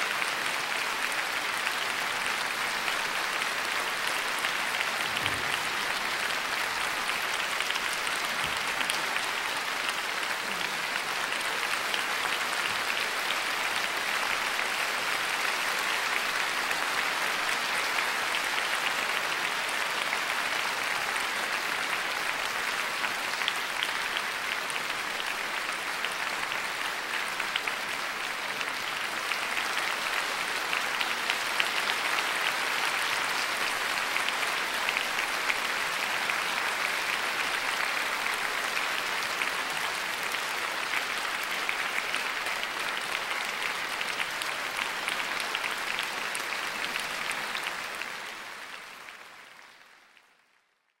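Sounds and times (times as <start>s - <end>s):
audience applauding: 0.0s - 50.6s.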